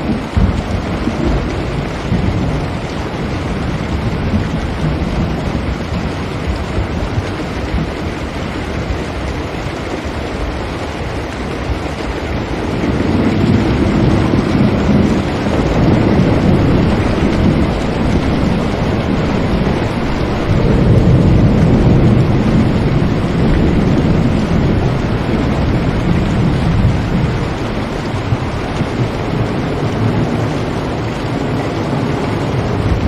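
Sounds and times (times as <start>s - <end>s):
deep rumble: 0.0s - 33.0s
heavy rain: 0.0s - 33.0s.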